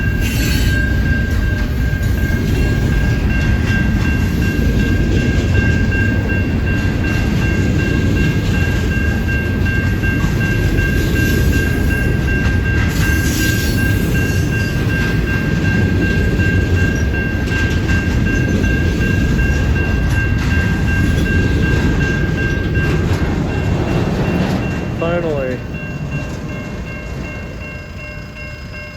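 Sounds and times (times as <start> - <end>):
freight train rumbling past: 0.0 - 28.9.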